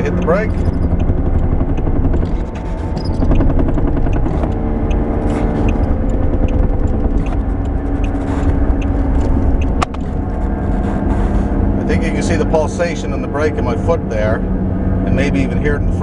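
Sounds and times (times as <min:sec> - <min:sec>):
road and engine noise: 0:00.0 - 0:16.0.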